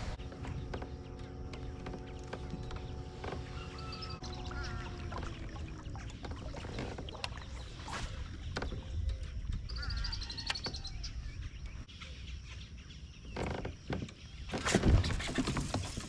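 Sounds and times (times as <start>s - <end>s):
bird chirping: 0.2s - 15.2s.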